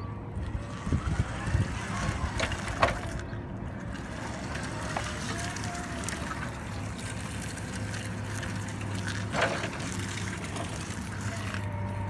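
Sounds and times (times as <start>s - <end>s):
electric forklift humming: 0.0s - 12.0s.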